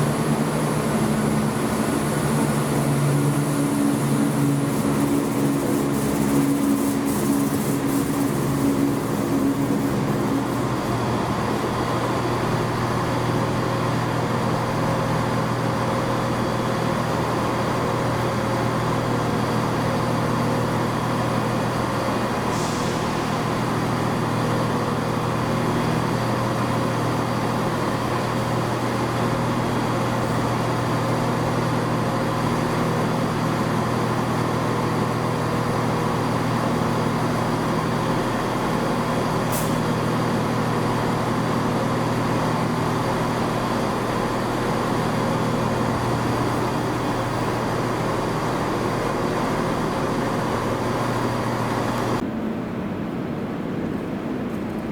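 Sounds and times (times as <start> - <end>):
engine droning: 0.0 - 52.4.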